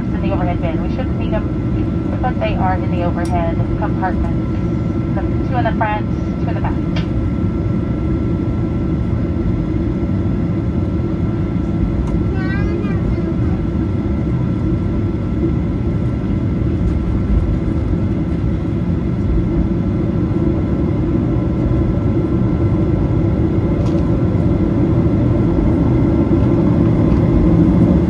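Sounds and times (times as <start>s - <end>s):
jet engine rumble: 0.0s - 28.0s.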